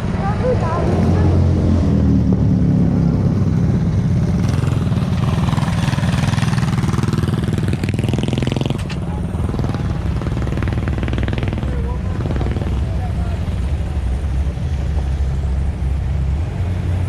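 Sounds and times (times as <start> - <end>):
small engine running at low revs: 0.0 - 17.0.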